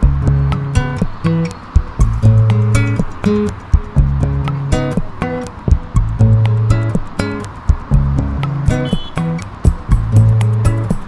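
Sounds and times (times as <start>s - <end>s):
latin background music: 0.0s - 11.0s
plucked guitar notes: 0.0s - 11.0s.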